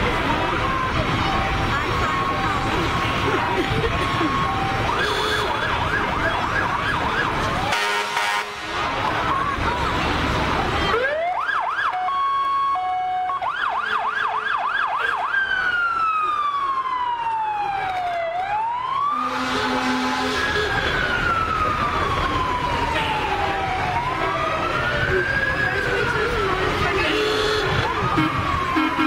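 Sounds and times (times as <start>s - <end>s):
fire truck siren: 0.0s - 29.0s.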